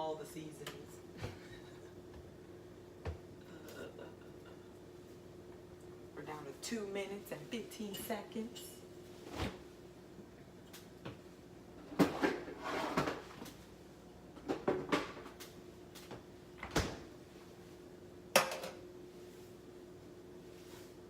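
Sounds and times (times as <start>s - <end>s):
faint oven hum: 0.0s - 21.0s.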